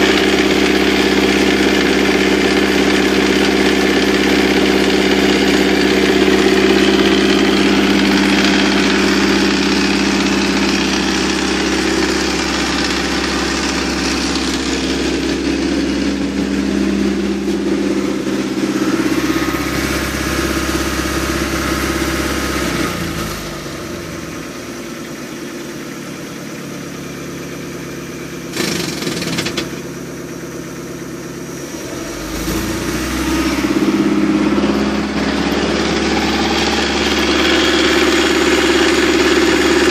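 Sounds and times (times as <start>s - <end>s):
boat engine running: 0.0s - 24.9s, 31.8s - 39.9s.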